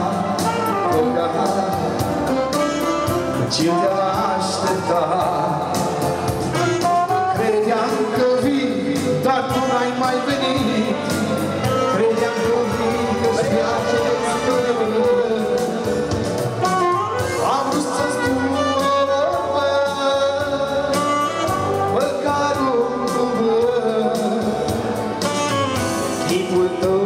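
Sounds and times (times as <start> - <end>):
keyboard accompaniment: 0.0 - 27.0
saxophone melody: 0.0 - 27.0.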